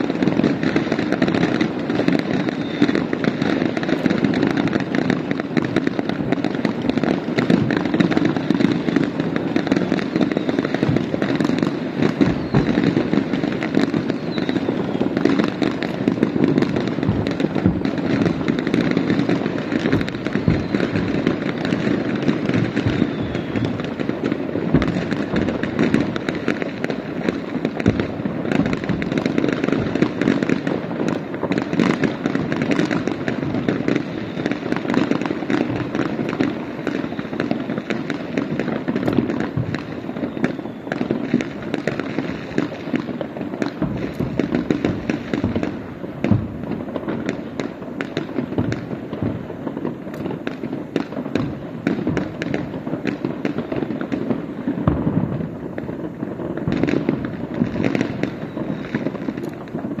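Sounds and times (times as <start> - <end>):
firework booms: 0.0 - 60.0
firework cracks and crackles: 0.0 - 60.0.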